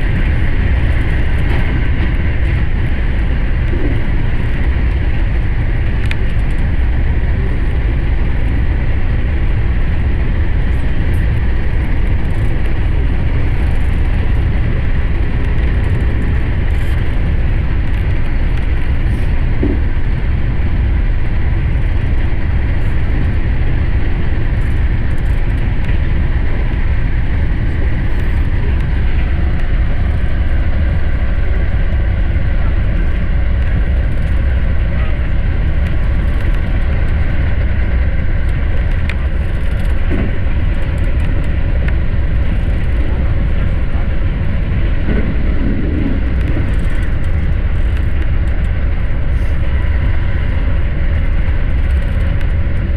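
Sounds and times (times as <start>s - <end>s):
train running rumble: 0.0s - 52.9s.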